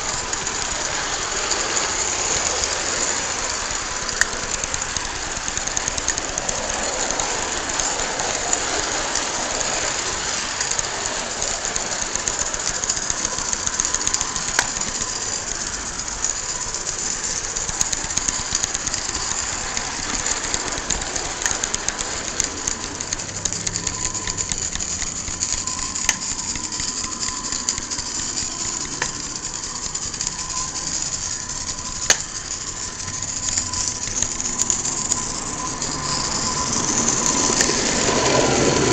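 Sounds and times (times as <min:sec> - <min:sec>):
faint steady tone: 0:00.0 - 0:38.9
steam locomotive hissing exhaust: 0:00.0 - 0:38.9.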